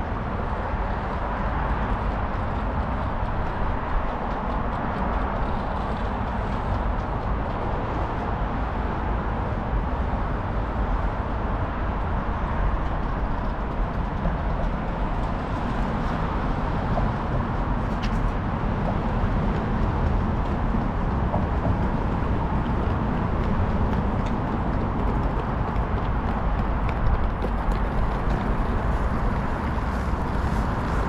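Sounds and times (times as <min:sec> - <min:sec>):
passing road traffic: 0:00.0 - 0:31.0.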